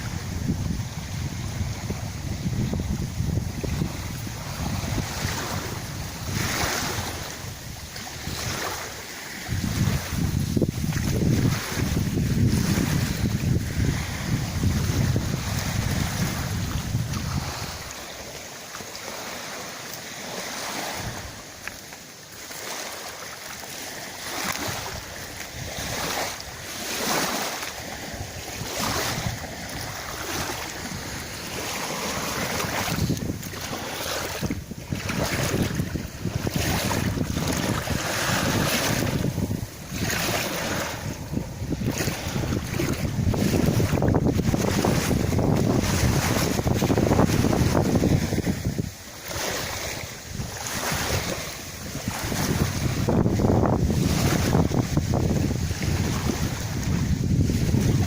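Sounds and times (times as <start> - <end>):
wind buffeting microphone: 0.0 - 19.6, 20.2 - 21.6, 23.8 - 58.0
wind rustling through reeds: 0.0 - 58.0.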